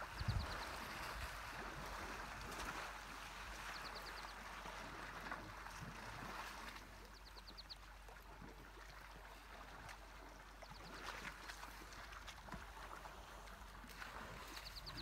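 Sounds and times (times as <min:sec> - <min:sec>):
water sloshing: 0:00.0 - 0:15.0.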